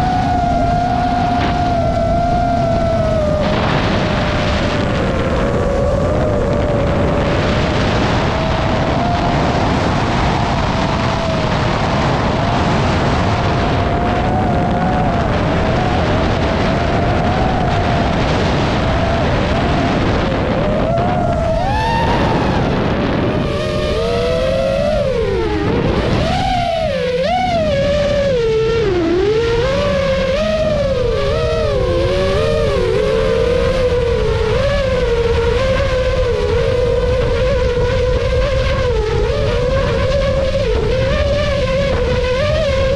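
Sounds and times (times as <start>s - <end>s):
quadcopter motors whining: 0.0s - 42.9s
wind buffeting microphone: 0.0s - 42.9s.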